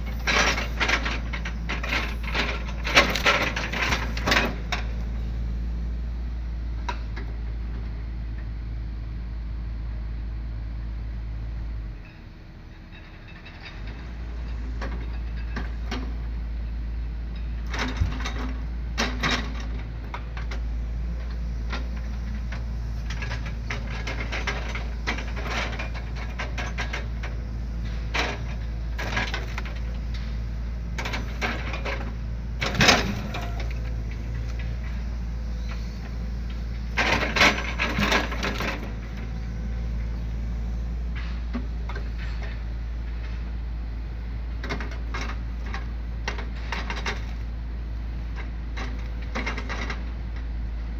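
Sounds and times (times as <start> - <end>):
excavator engine droning: 0.0 - 50.9.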